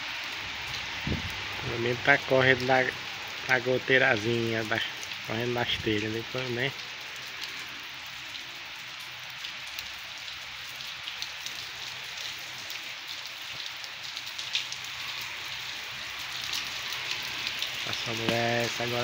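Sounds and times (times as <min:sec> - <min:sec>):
rain on a tiled roof: 0:00.0 - 0:19.0.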